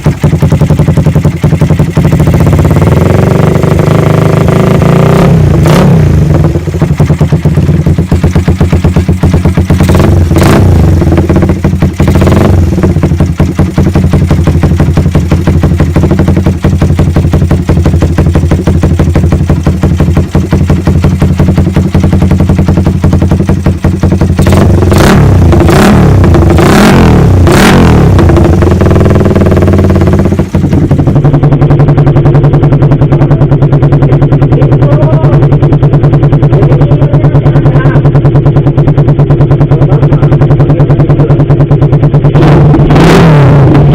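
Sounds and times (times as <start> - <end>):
engine throttle blips: 0.0 - 43.9
motorcycle engine idling: 0.0 - 43.9.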